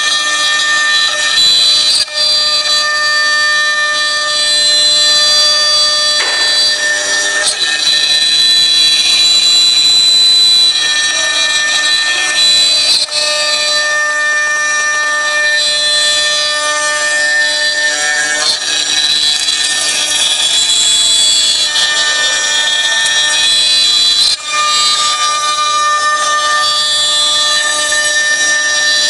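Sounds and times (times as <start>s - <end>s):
router spindle high whine: 0.0s - 29.0s.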